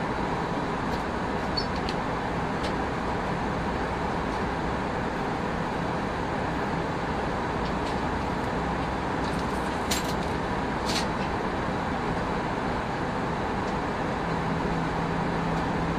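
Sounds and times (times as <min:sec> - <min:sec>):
jet engine cabin roar: 0:00.0 - 0:15.9.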